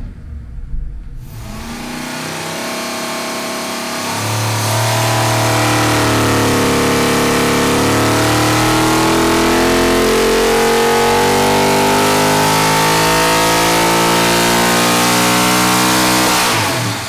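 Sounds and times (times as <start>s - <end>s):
engine revving at full throttle: 1.2s - 17.0s.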